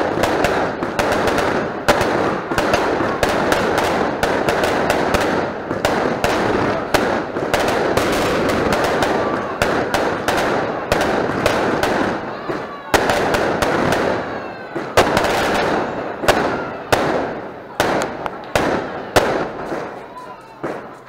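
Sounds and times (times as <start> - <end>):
firecrackers going off: 0.0 - 21.0.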